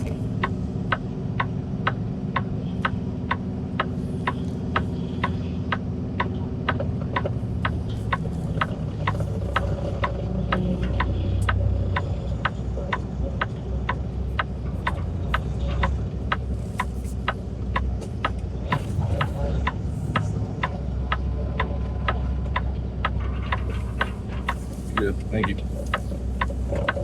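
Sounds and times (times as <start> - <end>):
diesel truck engine idling: 0.0 - 27.0
turn signal ticking: 0.0 - 27.0.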